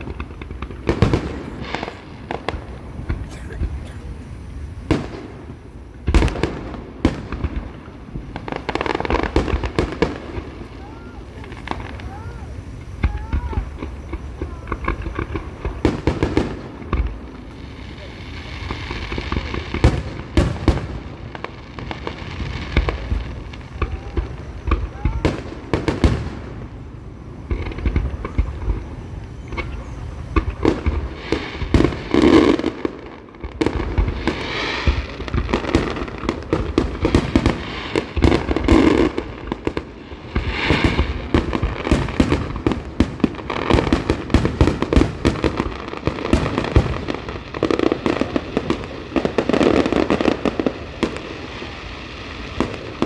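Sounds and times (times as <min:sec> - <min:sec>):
fireworks bangs and crackles: 0:00.0 - 0:53.0
people's voices: 0:00.0 - 0:53.0.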